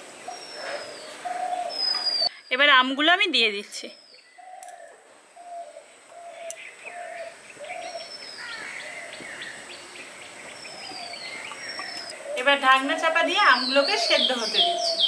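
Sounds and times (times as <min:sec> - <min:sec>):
birds calling: 0:00.0 - 0:02.4, 0:03.7 - 0:15.0.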